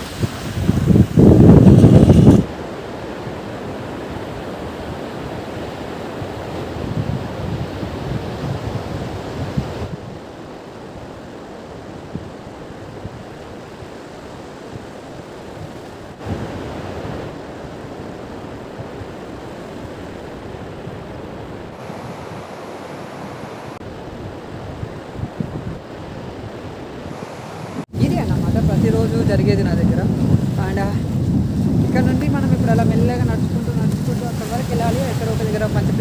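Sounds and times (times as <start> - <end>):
surf washing on beach: 0.0 - 36.0
wind on microphone: 0.0 - 36.0.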